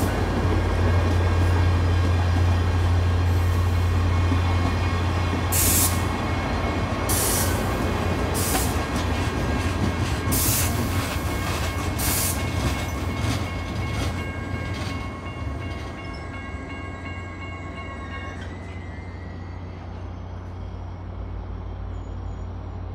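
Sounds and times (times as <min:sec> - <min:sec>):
train brakes squealing: 0:03.2 - 0:22.8.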